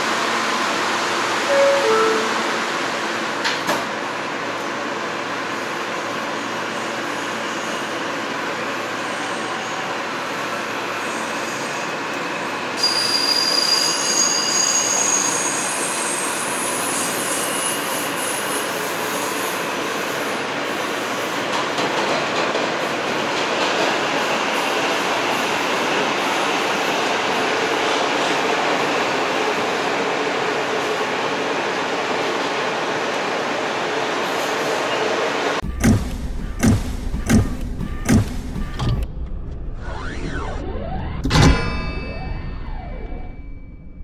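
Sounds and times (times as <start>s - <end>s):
subway train rumbling: 0.0s - 39.8s.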